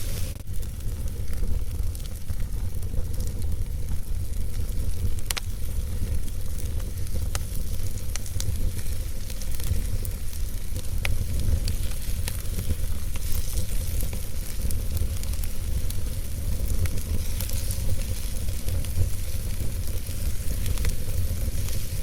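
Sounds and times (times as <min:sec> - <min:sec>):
fire rumbling and hissing: 0:00.0 - 0:22.0
wood crackling and popping: 0:00.0 - 0:22.0.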